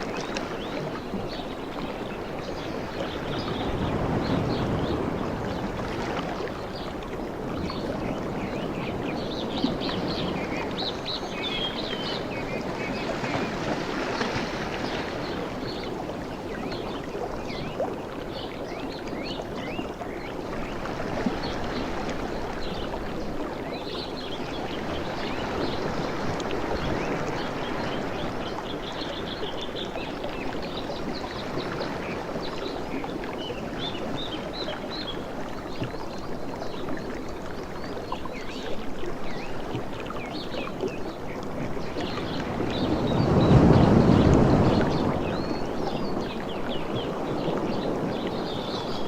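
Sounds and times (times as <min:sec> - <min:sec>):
waves washing on a beach: 0:00.0 - 0:49.0.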